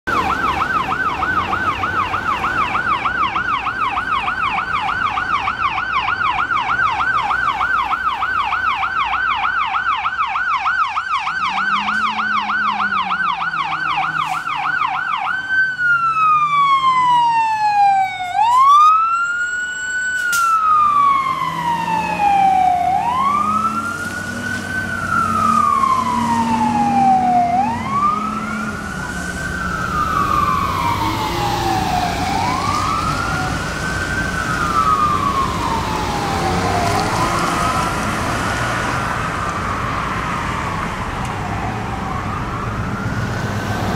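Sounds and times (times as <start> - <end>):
fire engine siren: 0.0 - 43.9
truck engine: 0.1 - 43.9.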